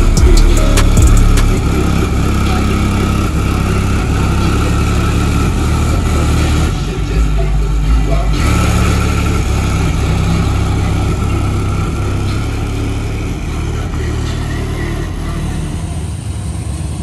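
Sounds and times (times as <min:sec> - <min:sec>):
car engine and exhaust rumbling: 0:00.0 - 0:17.0.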